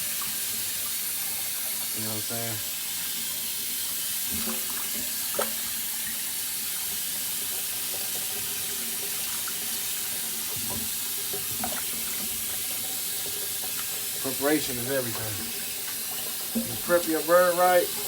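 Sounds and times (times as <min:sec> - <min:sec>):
tap water running into sink: 0:00.0 - 0:18.0.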